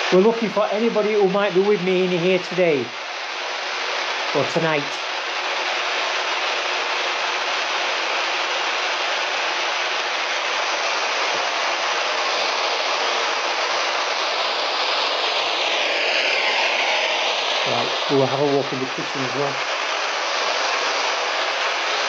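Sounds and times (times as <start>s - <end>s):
loud static hiss: 0.0s - 22.0s.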